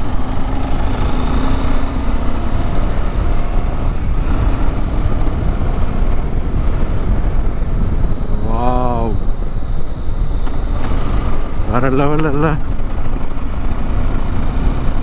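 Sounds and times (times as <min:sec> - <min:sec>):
motorcycle engine drone: 0:00.0 - 0:15.0
wind rumble on microphone: 0:00.0 - 0:15.0.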